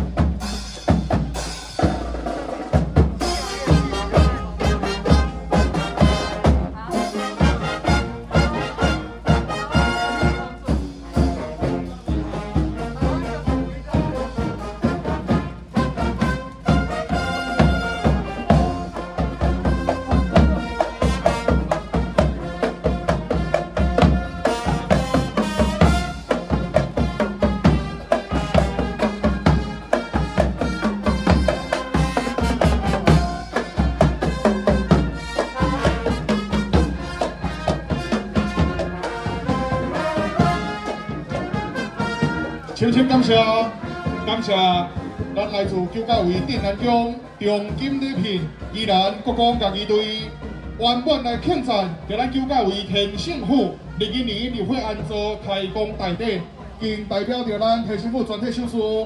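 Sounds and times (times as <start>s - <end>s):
brass melody: 0.0s - 55.1s
steady drum beat: 0.0s - 55.1s.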